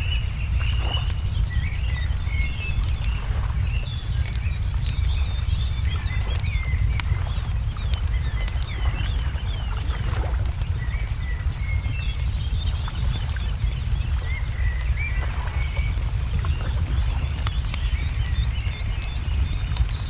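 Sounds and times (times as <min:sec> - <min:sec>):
small birds chirping: 0:00.0 - 0:20.0
wood fire crackling and popping: 0:00.0 - 0:20.0.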